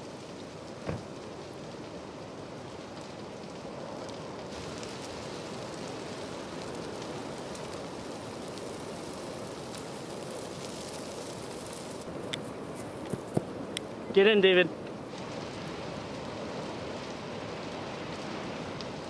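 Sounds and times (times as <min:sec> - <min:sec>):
fire crackling and popping: 0:00.0 - 0:19.0
fire roaring: 0:00.0 - 0:19.0.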